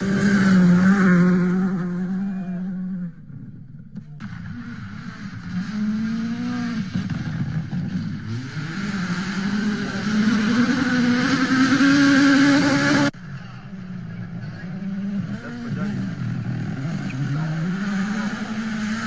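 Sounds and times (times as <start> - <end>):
quieter engine sound: 0.0 - 19.0
rally car engine accelerating: 0.0 - 19.0.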